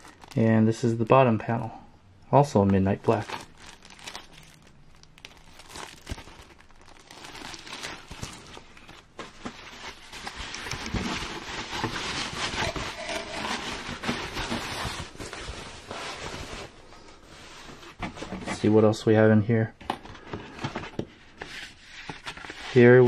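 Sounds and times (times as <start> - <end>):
plastic bag and foam rustling: 0.0 - 1.0, 2.5 - 23.0.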